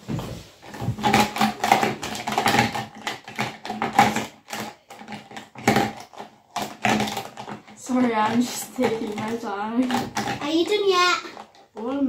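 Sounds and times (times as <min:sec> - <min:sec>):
plastic markers clattering: 0:00.6 - 0:12.0.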